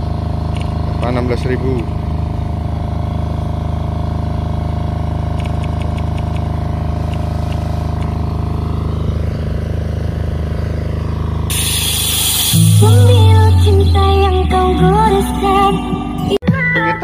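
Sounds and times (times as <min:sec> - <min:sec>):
low engine-like drone: 0:00.0 - 0:16.4.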